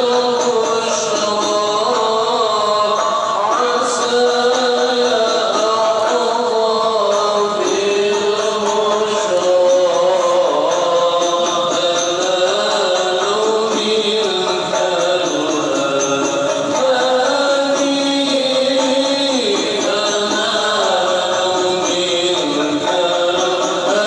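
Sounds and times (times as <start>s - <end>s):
men chanting over loudspeaker: 0.0s - 24.0s.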